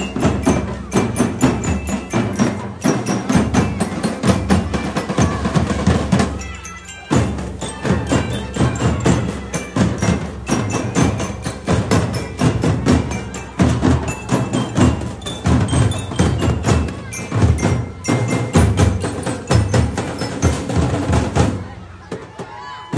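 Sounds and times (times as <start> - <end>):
bell lyra notes: 0.0 - 20.9
marching drum band: 0.0 - 22.9.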